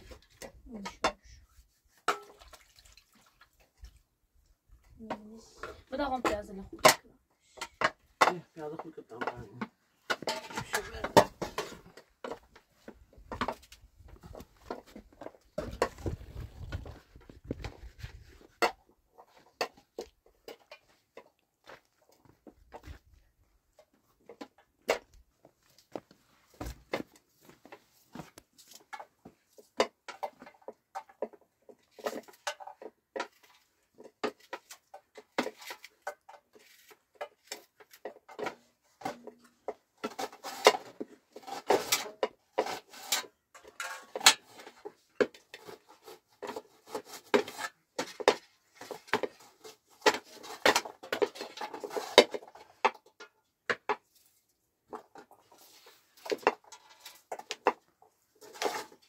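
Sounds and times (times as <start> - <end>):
objects knocking and tapping: 0.0 - 2.4, 4.7 - 54.1, 54.8 - 59.0.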